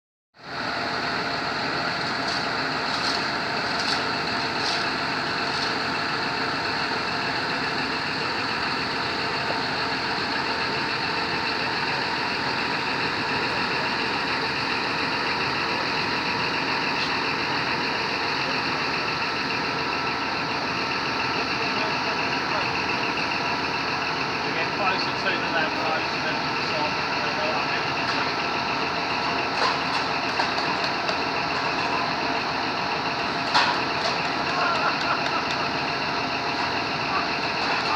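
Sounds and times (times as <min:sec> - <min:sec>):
heavy vehicle engine idling: 0:00.4 - 0:37.9.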